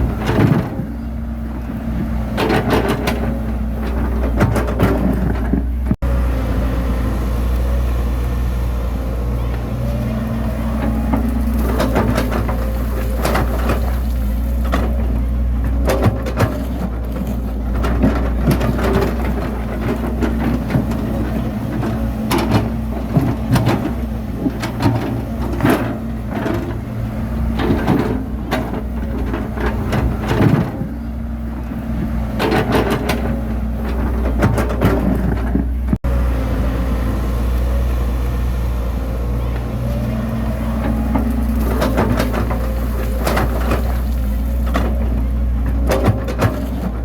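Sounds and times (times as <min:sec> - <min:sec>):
bulldozer diesel engine running: 0:00.0 - 0:47.0.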